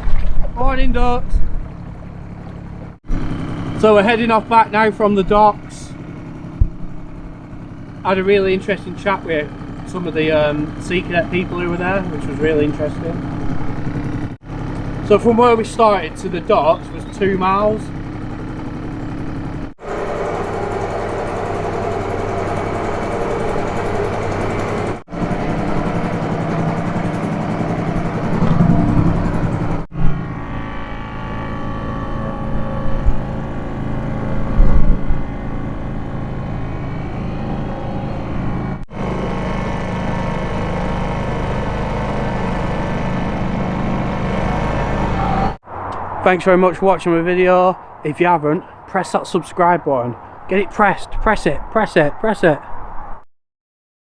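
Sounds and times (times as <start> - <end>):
outboard motor running: 0.0 - 45.6.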